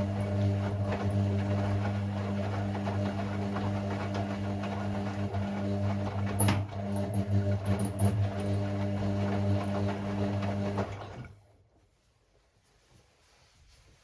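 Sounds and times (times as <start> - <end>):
washing machine humming: 0.0 - 11.6.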